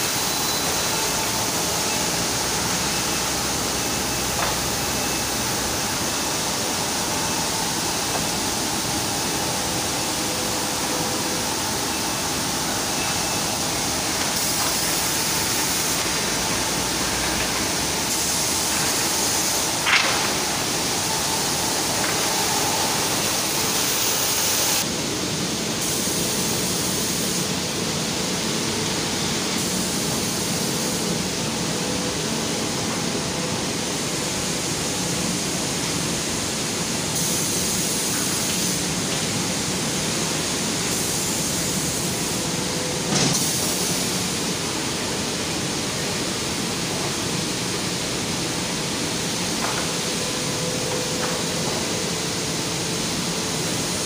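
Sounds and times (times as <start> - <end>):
conveyor machinery hiss: 0.0 - 54.0.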